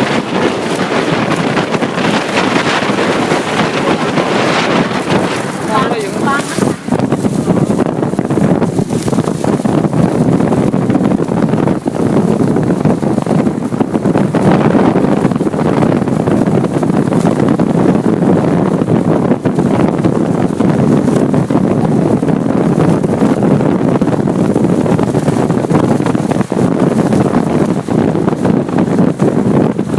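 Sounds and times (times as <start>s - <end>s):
motorcycle engine: 0.0s - 29.9s
road noise: 0.0s - 29.9s
wind buffeting microphone: 0.0s - 29.9s.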